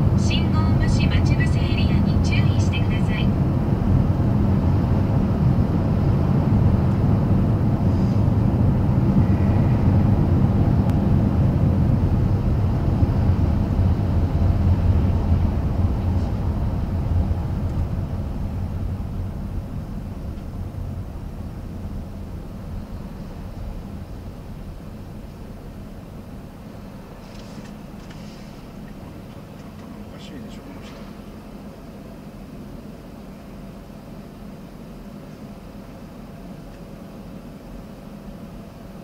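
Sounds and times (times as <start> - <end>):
car cabin road rumble: 0.0 - 31.6.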